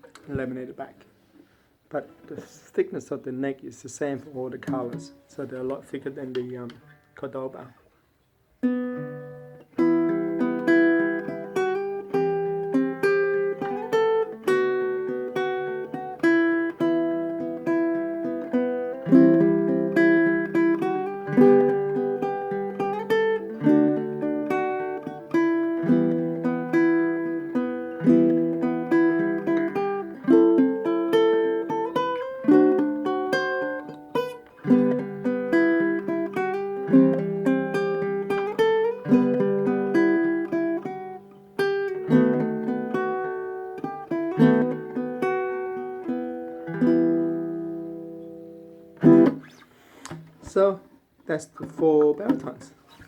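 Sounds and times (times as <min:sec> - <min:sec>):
ukulele plucked notes and chords: 0:08.7 - 0:50.3, 0:51.6 - 0:52.7.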